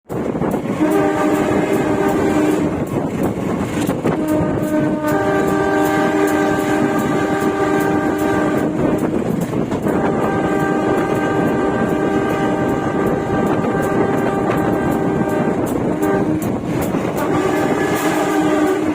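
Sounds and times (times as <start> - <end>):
train wheels on rail clicking: 0.0 - 18.9
train horn blasts: 0.5 - 18.9.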